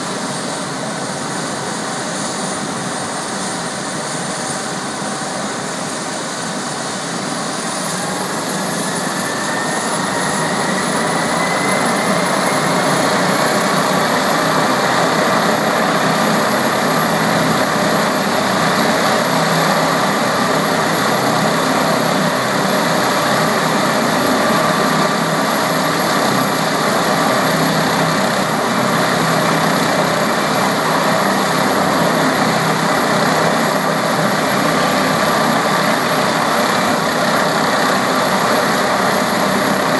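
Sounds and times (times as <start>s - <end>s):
helicopter turbine engines winding up: 0.0s - 39.9s.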